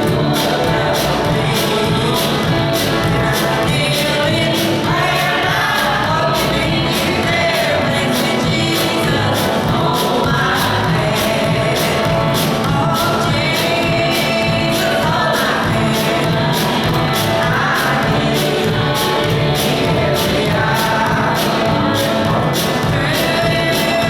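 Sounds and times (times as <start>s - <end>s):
congregation singing a hymn: 0.0s - 24.0s
instrumental accompaniment: 0.0s - 24.0s
steady beat: 0.0s - 24.0s.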